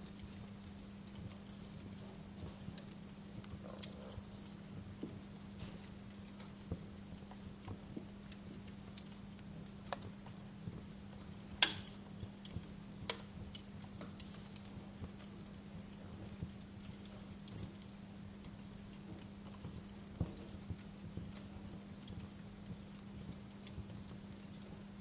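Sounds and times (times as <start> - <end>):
low hum and hiss: 0.0 - 25.0
wood fire crackling: 0.0 - 25.0.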